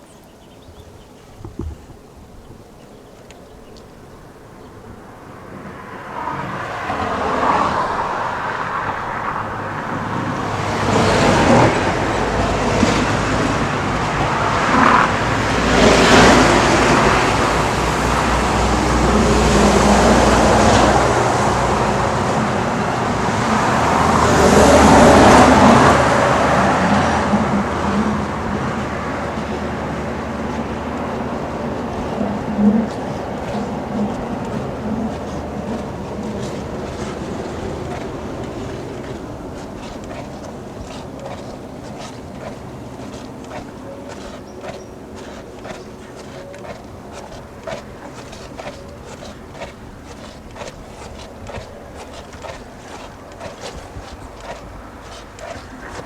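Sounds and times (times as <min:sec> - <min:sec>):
motor vehicles passing: 0:03.5 - 0:56.0
low engine drone: 0:04.9 - 0:56.0.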